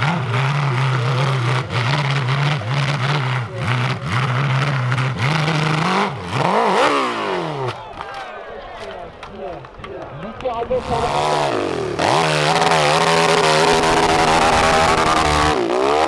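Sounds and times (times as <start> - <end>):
motorcycle engine revving: 0.0 - 7.8, 10.6 - 16.0.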